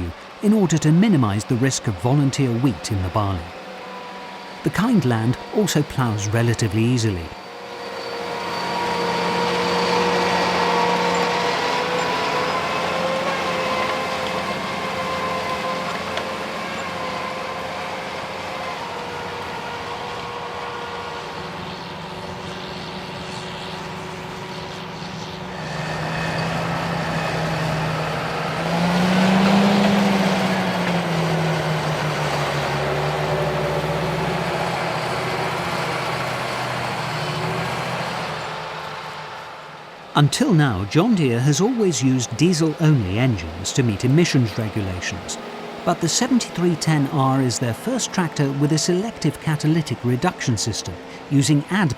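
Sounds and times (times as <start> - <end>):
tractor diesel engine pulling hard: 0.0 - 51.9.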